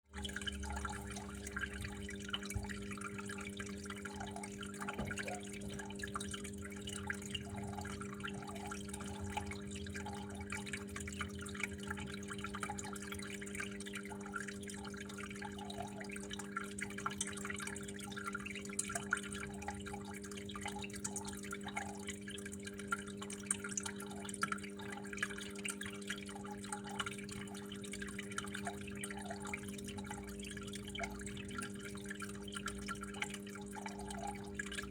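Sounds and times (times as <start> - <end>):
water trickling and dripping: 0.1 - 34.9.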